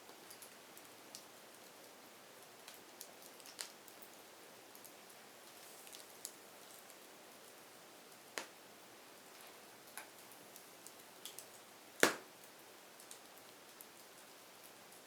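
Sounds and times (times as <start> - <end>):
fire crackles and pops: 0.0 - 15.0
wood fire hissing: 0.1 - 14.9.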